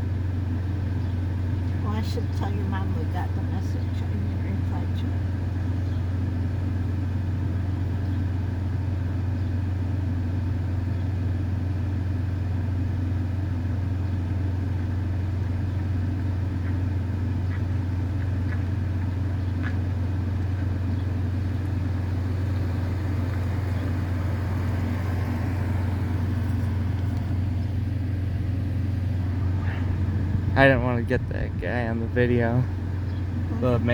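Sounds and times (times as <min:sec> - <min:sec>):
vehicle engine idling: 0:00.0 - 0:33.9.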